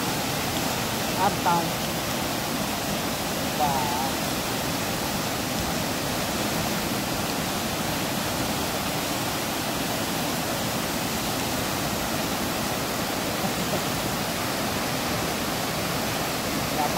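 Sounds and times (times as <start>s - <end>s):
river rushing over rocks: 0.0s - 16.9s.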